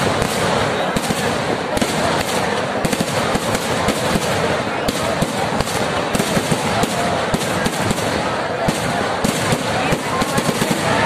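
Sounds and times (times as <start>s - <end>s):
firecracker explosions: 0.0s - 11.0s.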